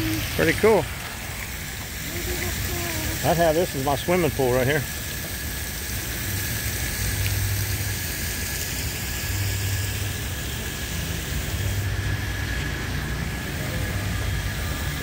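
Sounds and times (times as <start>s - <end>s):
traffic on wet pavement: 0.0s - 15.0s.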